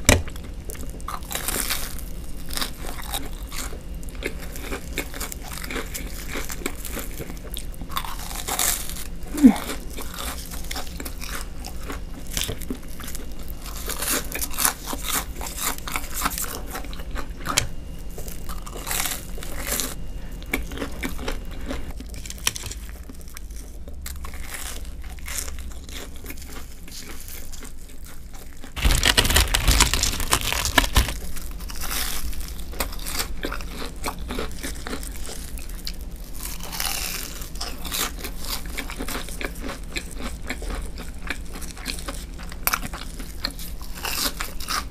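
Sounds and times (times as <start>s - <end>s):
crunching and chewing fried food: 0.0s - 44.9s.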